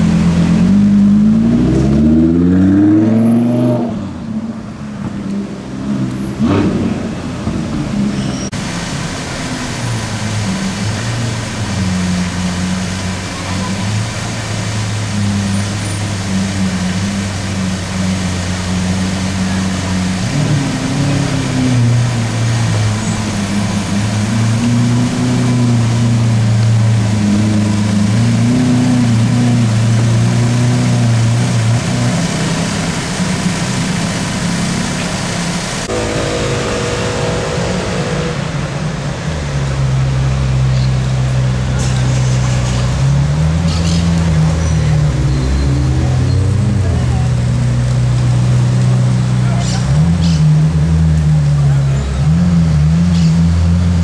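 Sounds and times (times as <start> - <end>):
car engine running: 9.2 - 54.0.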